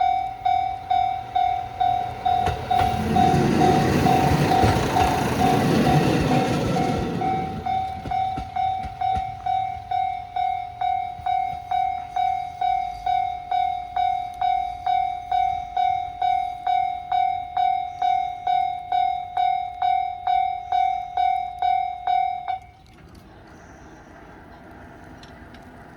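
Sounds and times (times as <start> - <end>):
level crossing warning bell: 0.0 - 22.8
diesel railcar running: 0.0 - 25.9.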